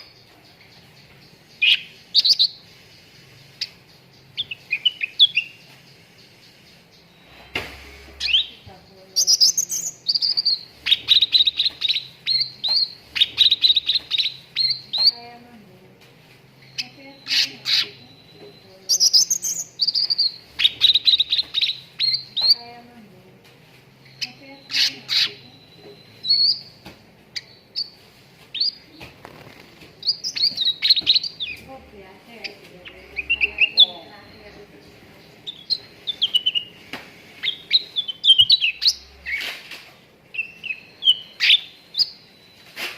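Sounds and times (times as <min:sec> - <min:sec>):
bulbul singing chirps and trills: 0:00.0 - 0:07.5, 0:08.1 - 0:15.5, 0:16.6 - 0:22.9, 0:24.0 - 0:29.0, 0:30.0 - 0:36.8, 0:37.4 - 0:39.4, 0:40.3 - 0:42.8.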